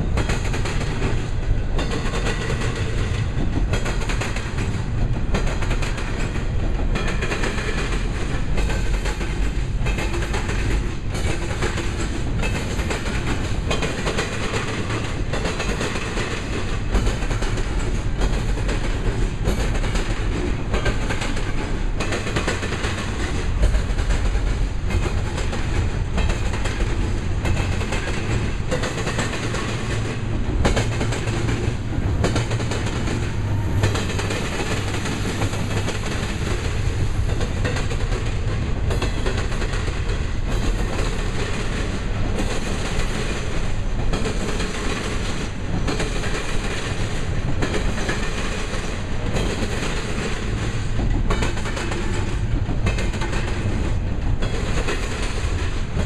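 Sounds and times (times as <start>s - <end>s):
freight train rumbling: 0.0s - 56.0s
wheels clacking over rail joints: 0.0s - 56.0s.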